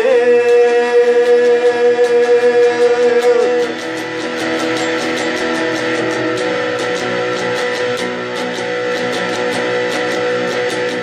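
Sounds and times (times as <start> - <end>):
guitar band instrumental: 0.0 - 11.0
light guitar strumming: 0.0 - 11.0
long held guitar note: 0.0 - 11.0.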